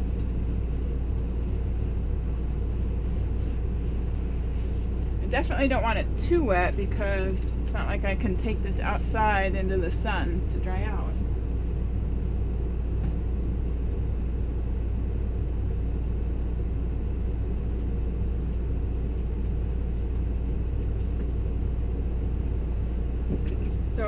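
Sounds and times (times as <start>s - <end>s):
low hum and rumble: 0.0s - 24.0s.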